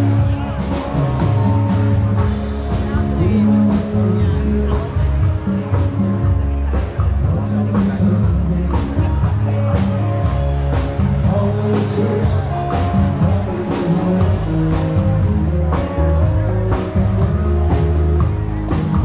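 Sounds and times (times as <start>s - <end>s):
rock song with guitar: 0.0s - 19.0s.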